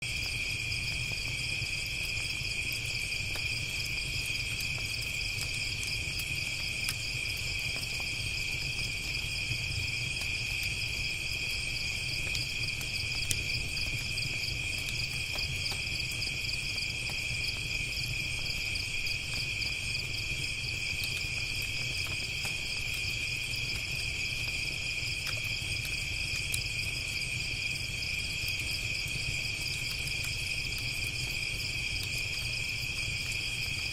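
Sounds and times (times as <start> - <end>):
campfire crackling: 0.0 - 33.9
crickets chirping: 0.0 - 33.9.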